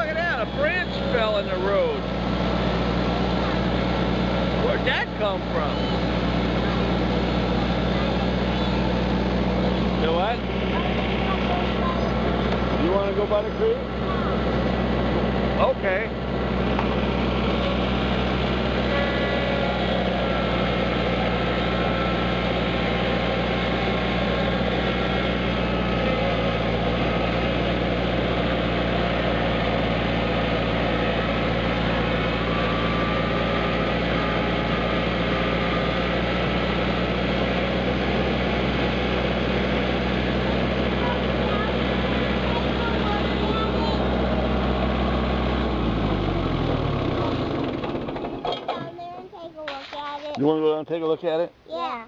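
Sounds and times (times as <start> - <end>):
tractor engine running: 0.0 - 50.4.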